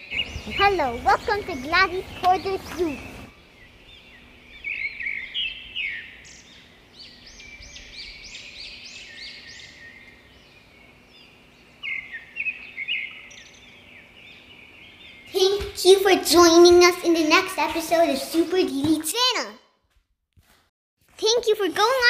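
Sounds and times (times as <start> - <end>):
birds chirping and singing: 0.0 - 18.4.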